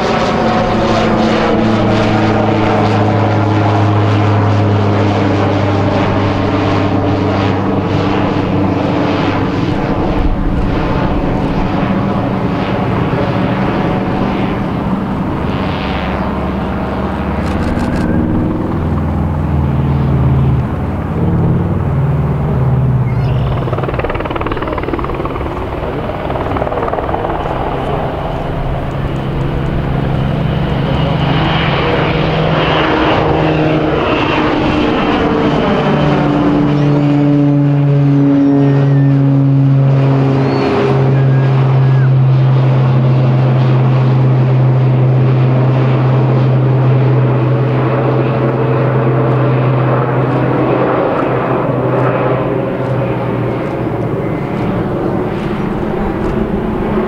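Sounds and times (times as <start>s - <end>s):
propeller plane droning past: 0.0s - 57.0s
twin engine plane taking off: 0.0s - 57.0s.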